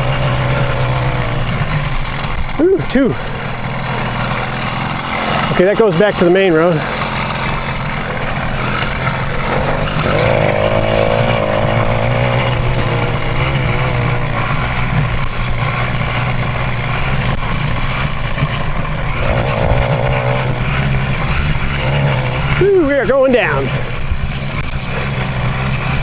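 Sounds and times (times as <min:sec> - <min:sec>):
two-stroke engine running: 0:00.0 - 0:26.0.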